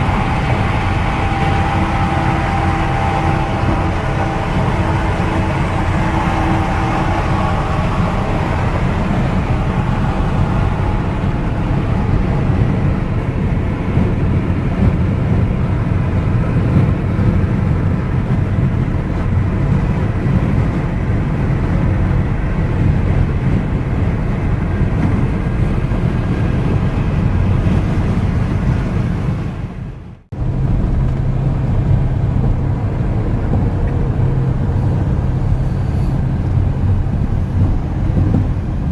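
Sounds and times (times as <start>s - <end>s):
car road noise at highway speed: 0.0s - 38.9s.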